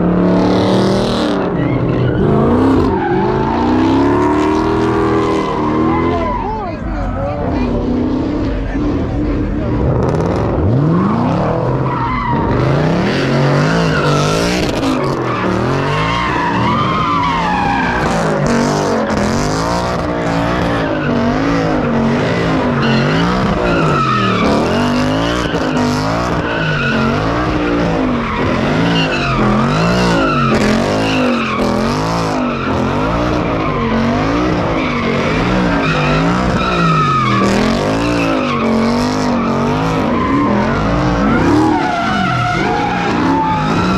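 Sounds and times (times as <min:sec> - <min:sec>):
car engine revving: 0:00.0 - 0:43.9
tires squealing: 0:00.0 - 0:43.9.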